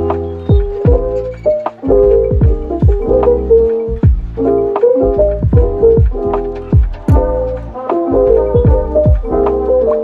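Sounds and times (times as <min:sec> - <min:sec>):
lo-fi instrumental music: 0:00.0 - 0:10.0.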